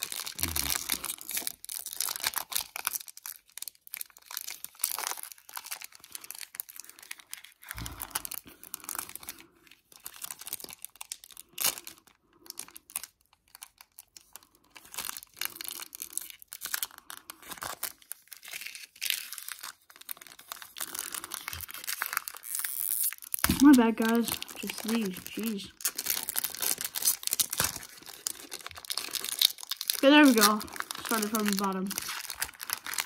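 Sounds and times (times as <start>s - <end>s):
foil pack crinkling: 0.0s - 33.0s.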